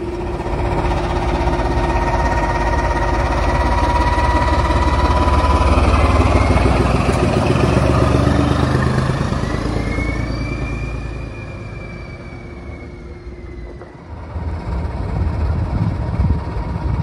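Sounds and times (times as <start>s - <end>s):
diesel locomotive engine throbbing: 0.0s - 17.0s
transmission whine: 0.0s - 17.0s.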